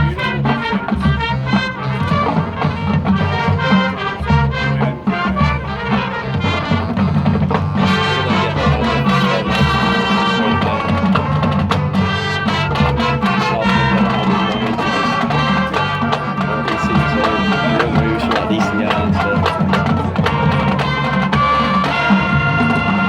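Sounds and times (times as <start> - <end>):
brass playing a tune: 0.0 - 23.0
drumline percussion: 0.0 - 23.0.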